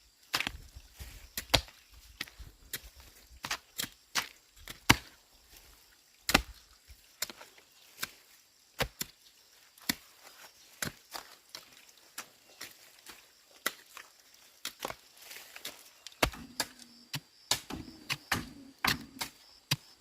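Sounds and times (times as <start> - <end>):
hand tool striking earth and stone: 0.3 - 5.6, 6.2 - 9.2, 9.8 - 11.7, 12.5 - 20.0.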